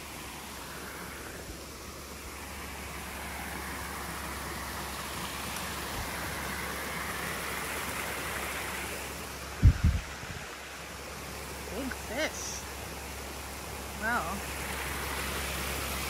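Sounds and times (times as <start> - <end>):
creek water running: 0.0 - 16.0.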